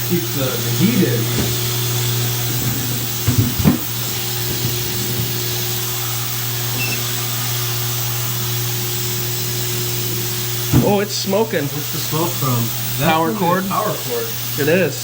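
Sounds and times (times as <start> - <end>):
ultrasonic cleaner humming and hissing: 0.0 - 15.0.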